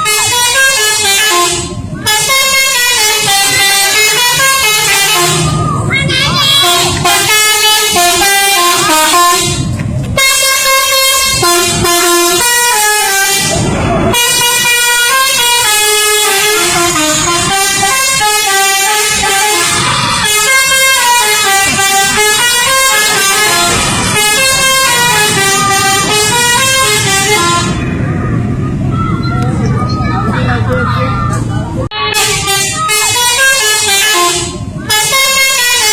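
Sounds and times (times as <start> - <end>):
musical air horn playing a tune: 0.0 - 5.6, 6.6 - 27.8, 32.0 - 35.9.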